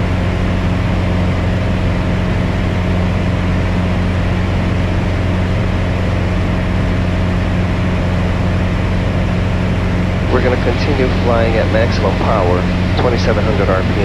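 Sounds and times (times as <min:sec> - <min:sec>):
airplane engine and propeller droning: 0:00.0 - 0:14.0.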